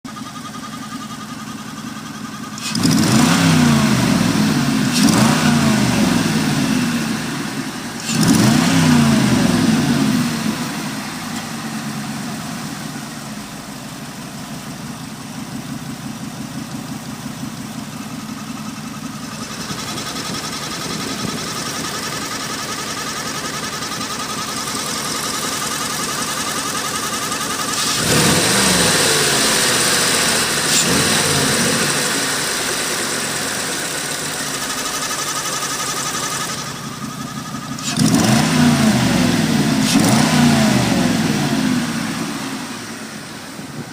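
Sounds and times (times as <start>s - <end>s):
car engine revving and idling: 0.0s - 43.9s.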